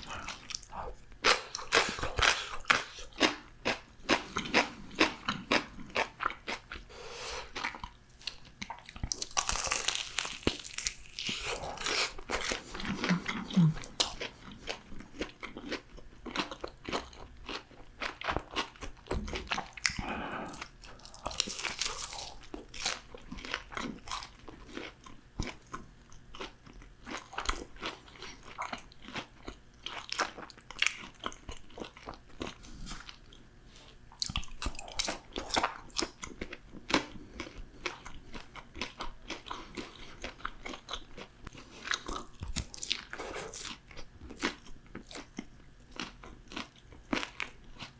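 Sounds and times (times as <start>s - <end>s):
chewing crispy fried food: 0.0s - 47.9s.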